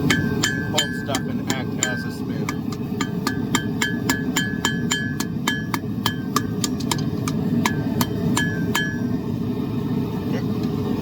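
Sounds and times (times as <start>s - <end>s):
hammer striking steel on anvil: 0.0s - 9.2s
forge burner roar: 0.0s - 11.0s.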